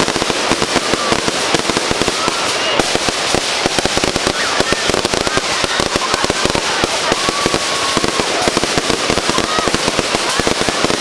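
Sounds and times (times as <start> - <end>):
fireworks crackling bangs: 0.0 - 11.0
fireworks whistles: 0.0 - 11.0.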